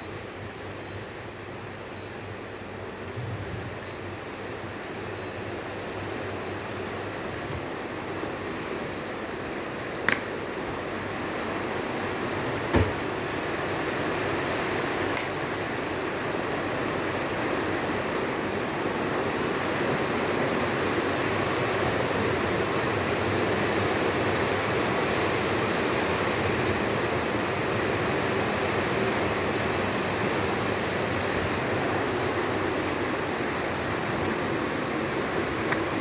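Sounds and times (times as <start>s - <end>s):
air conditioner fan rushing: 0.0s - 36.0s.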